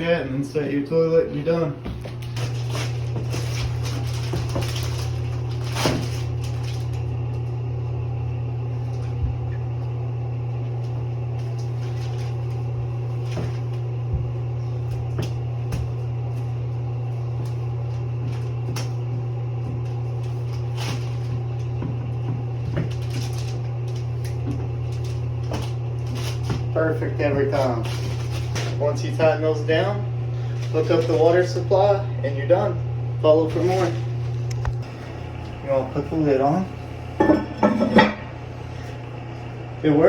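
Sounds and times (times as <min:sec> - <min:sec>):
low hum: 0:00.0 - 0:40.0.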